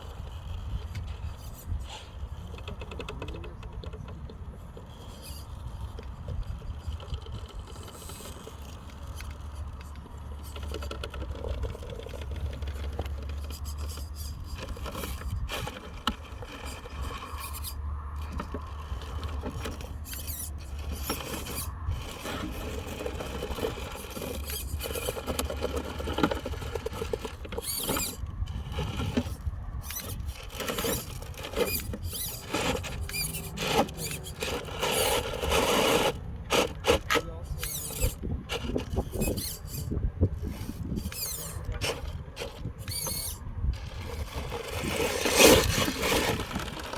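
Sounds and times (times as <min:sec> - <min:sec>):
toy truck motor whining: 0:00.0 - 0:46.9
clicks knocks and scrapes: 0:00.4 - 0:46.9.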